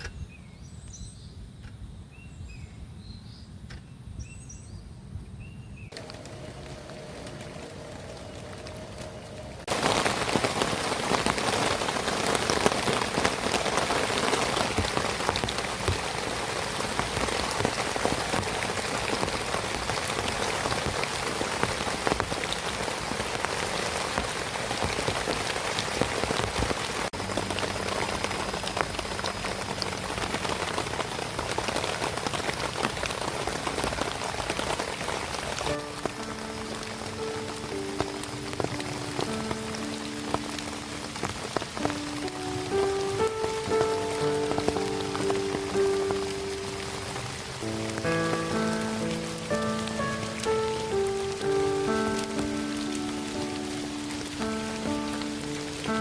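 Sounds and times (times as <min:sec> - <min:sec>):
heavy rain falling: 0:05.9 - 0:56.0.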